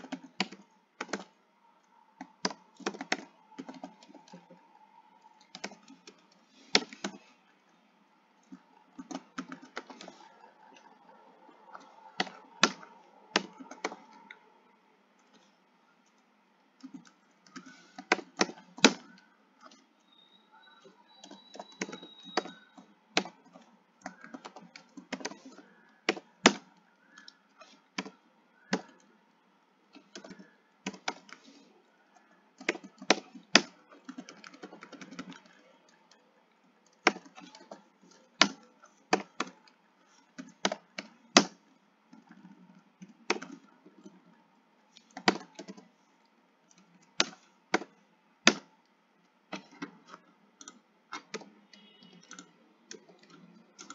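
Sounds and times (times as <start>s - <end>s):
typing on computer keyboard: 0.0s - 7.4s, 8.4s - 14.5s, 15.2s - 29.2s, 29.9s - 46.0s, 46.6s - 48.8s, 49.5s - 53.9s.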